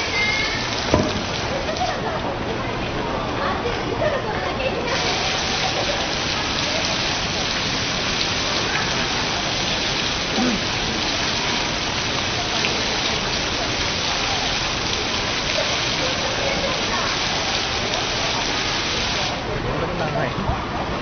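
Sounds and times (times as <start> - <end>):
falling water patter: 0.0 - 21.0.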